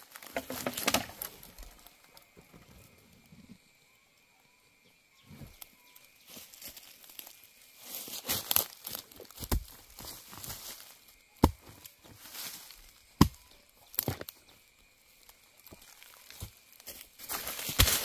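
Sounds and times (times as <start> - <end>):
undergrowth rustling: 0.0 - 3.7, 5.2 - 18.0.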